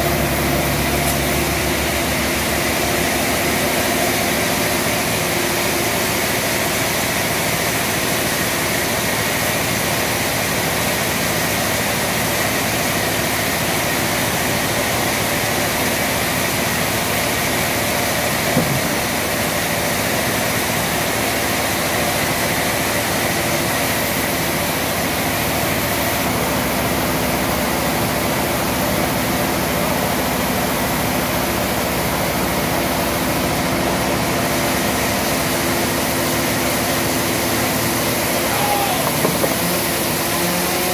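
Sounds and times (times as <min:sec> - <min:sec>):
sawmill machine hum and hiss: 0:00.0 - 0:40.9.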